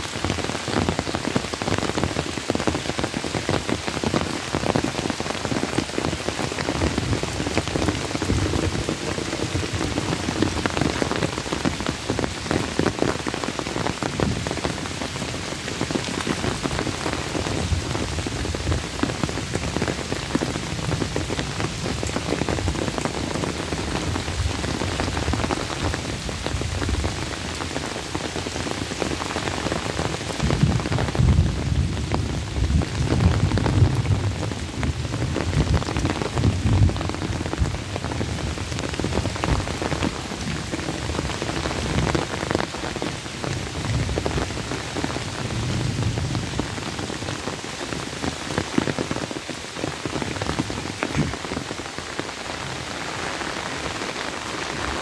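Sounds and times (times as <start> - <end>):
heavy rain on leaves and water: 0.0 - 55.0.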